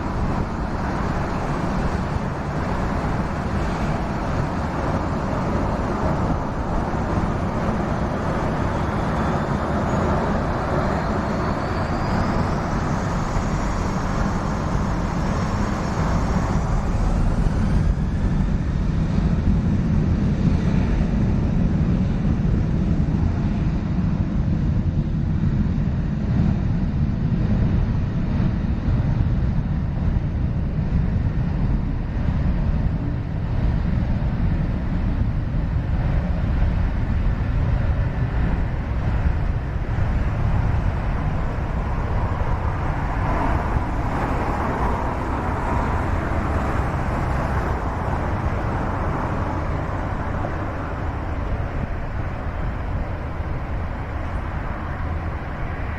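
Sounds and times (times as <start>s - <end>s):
low vehicle rumble: 0.0s - 55.9s.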